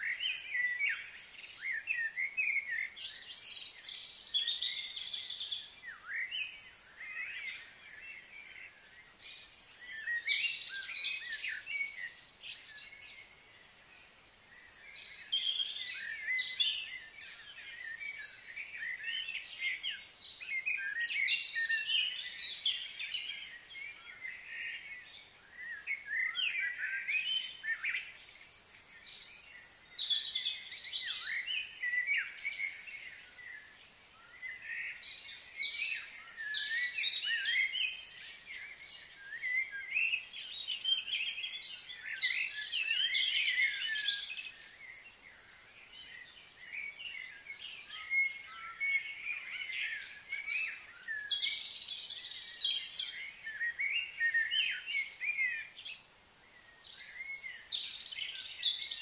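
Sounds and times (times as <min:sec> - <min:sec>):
faint high hiss: 0:00.0 - 0:59.0
small birds chirping: 0:00.0 - 0:59.0.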